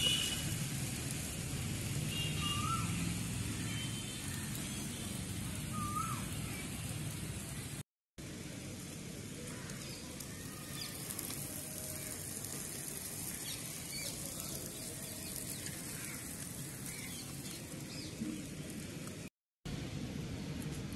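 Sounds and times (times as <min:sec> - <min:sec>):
outdoor hiss: 0:00.0 - 0:20.9.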